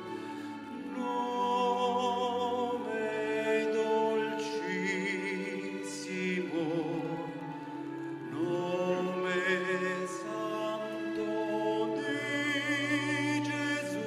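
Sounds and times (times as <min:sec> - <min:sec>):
mixed choir singing: 0:00.0 - 0:14.0.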